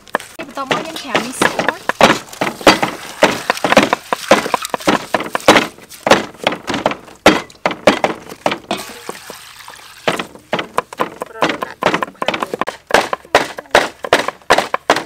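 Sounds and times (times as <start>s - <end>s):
knife chopping carrots on wood: 0.0s - 8.9s, 10.1s - 15.0s.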